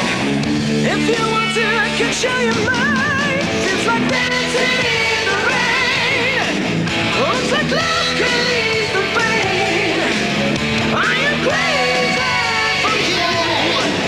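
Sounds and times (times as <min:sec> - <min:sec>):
hard rock band playing: 0:00.0 - 0:14.0
person singing: 0:00.8 - 0:10.2, 0:10.9 - 0:14.0.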